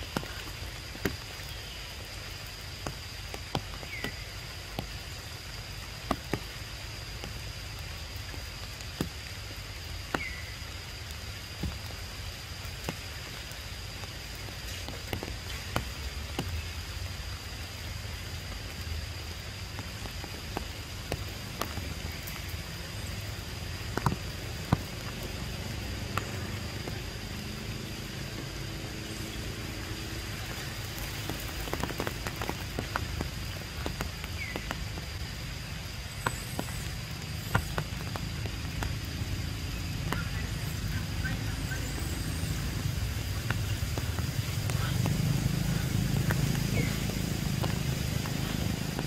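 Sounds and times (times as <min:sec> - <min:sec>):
rain on leaves: 0:00.0 - 0:49.0.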